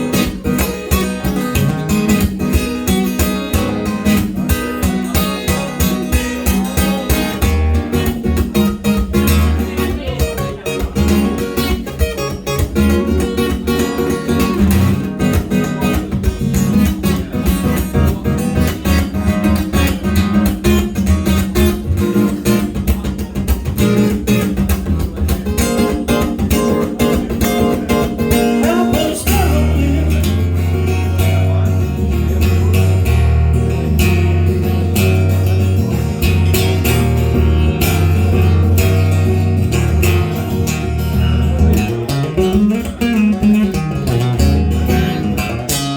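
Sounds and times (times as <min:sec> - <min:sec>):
bass line: 0:00.0 - 0:45.9
strummed guitar: 0:00.0 - 0:45.9.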